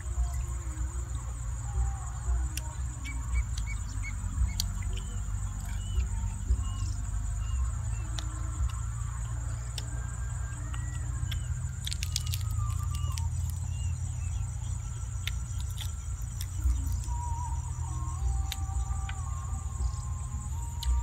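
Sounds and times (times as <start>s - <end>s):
faint chirps: 0.0s - 21.0s
high-pitched insect drone: 0.0s - 21.0s
low rumble: 0.0s - 21.0s.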